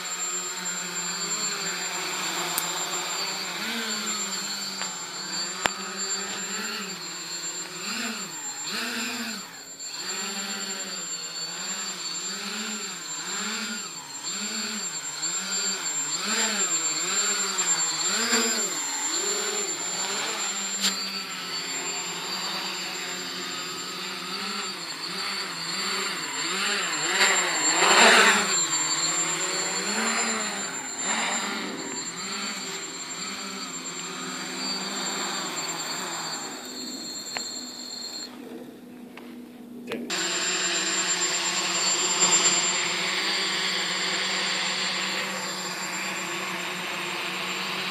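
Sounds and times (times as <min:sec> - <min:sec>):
quadcopter propellers buzzing: 0:00.0 - 0:47.9
steady high whine: 0:00.0 - 0:47.9.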